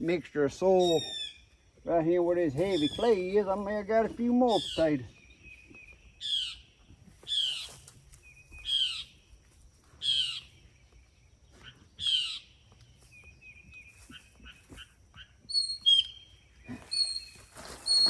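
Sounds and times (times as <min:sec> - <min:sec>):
harsh bird calls: 0:00.0 - 0:09.2, 0:10.0 - 0:10.6, 0:11.5 - 0:18.0
soft bird chirps: 0:00.6 - 0:09.4, 0:10.0 - 0:18.0.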